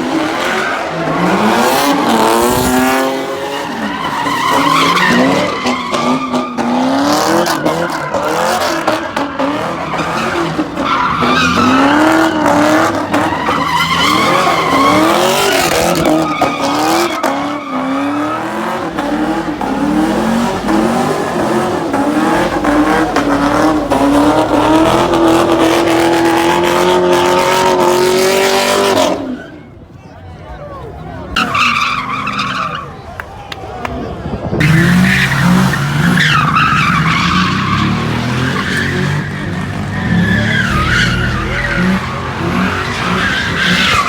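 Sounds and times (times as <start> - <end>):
car engine revving hard: 0.0 - 29.3, 34.6 - 44.0
tyres spinning and squealing: 0.0 - 30.3, 30.9 - 44.0.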